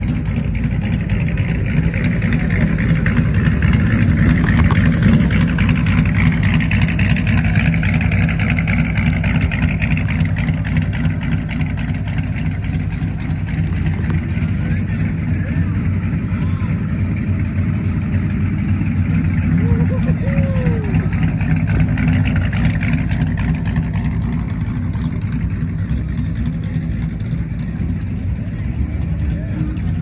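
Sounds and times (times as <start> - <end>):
car engine idling with deep rumble: 0.0 - 30.0.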